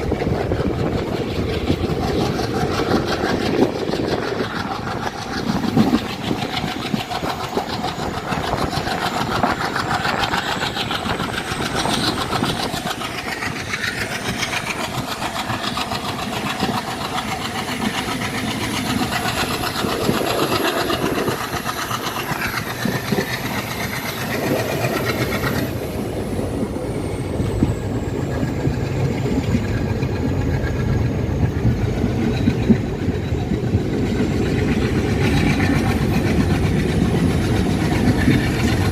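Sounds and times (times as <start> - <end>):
train rumbling and rattling: 0.0 - 38.9.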